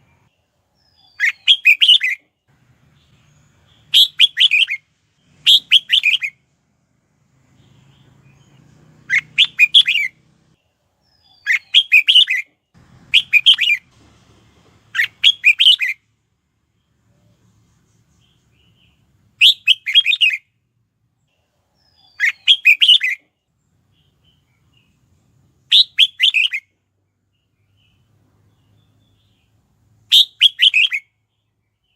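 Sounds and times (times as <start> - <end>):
bird song phrases: 0.0 - 6.4, 7.3 - 13.8, 16.6 - 20.5, 21.2 - 31.9.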